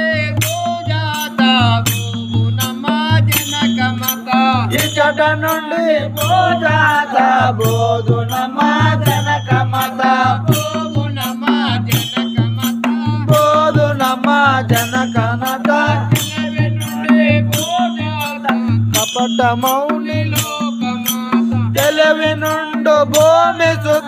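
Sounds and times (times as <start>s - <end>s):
person singing devotional melody: 0.0s - 24.0s.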